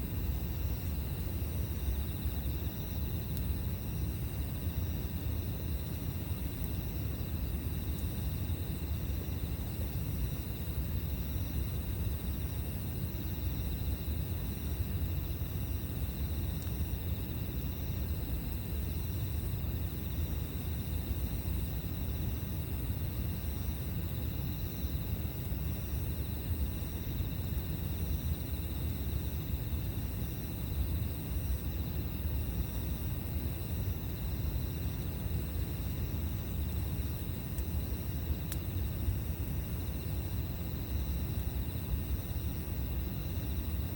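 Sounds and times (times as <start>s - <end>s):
continuous low rumble: 0.0s - 43.9s
insects chirring: 0.0s - 43.9s.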